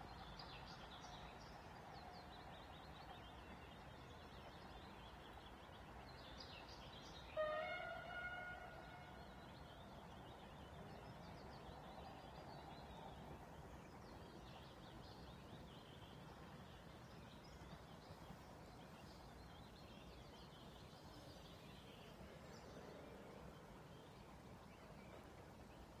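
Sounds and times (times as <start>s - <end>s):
small birds singing faintly: 0.0s - 26.0s.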